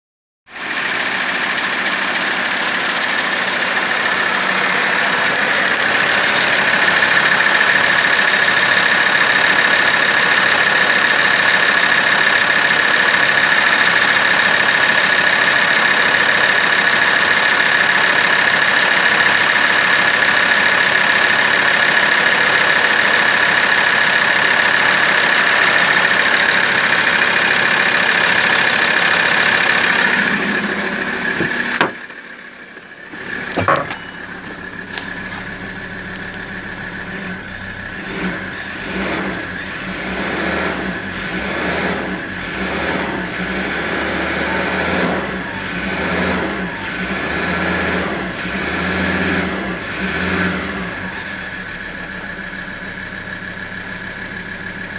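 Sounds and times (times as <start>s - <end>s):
diesel engine idling: 0.5s - 54.9s.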